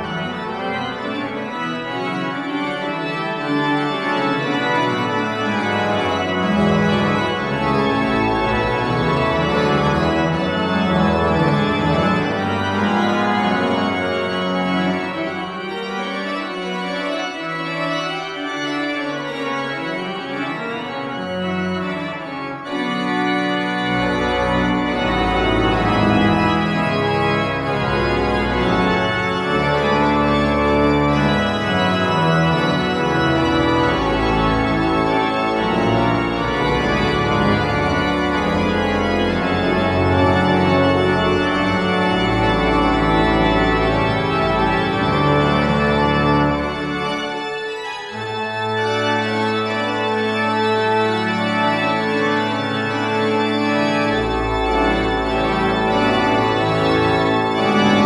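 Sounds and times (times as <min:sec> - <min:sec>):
deep organ pedal bass notes: 0:00.0 - 0:58.0
pipe organ chords: 0:00.0 - 0:58.0.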